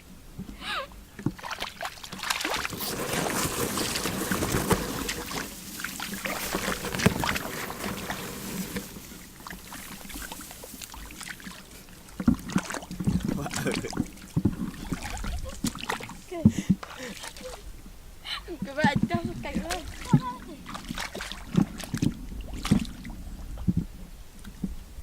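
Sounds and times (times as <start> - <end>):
water splashing and sloshing: 0.4 - 17.9, 18.5 - 24.6.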